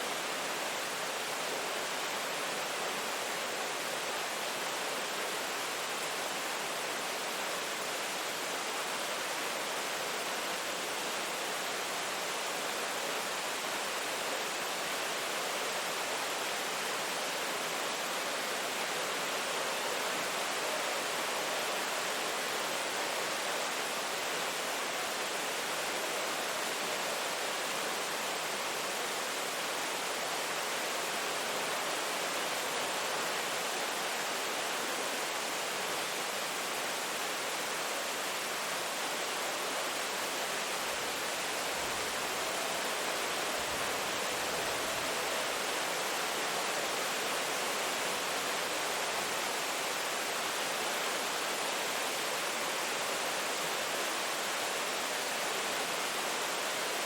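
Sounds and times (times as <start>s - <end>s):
hiss of falling rain: 0.0s - 57.0s.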